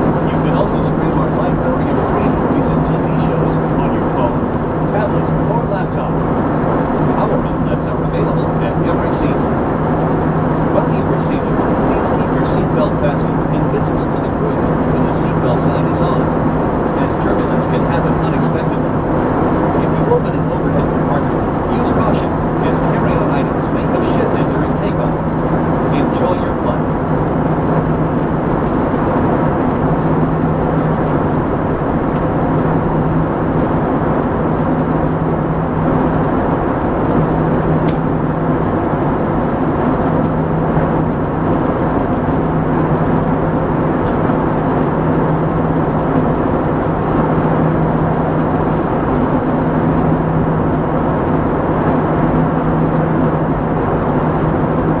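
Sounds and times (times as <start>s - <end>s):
jet engine cabin roar: 0.0s - 55.0s
low wavering hum: 0.0s - 55.0s.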